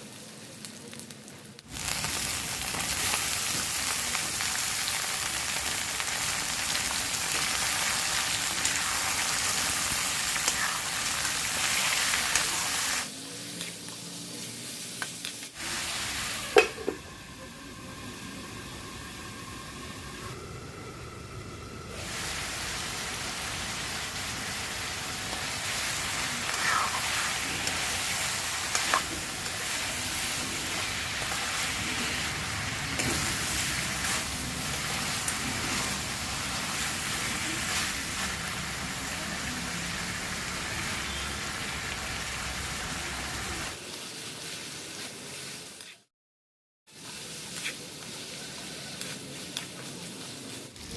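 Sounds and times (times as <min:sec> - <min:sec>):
food sizzling in hot oil: 0:01.7 - 0:45.9, 0:46.9 - 0:50.9.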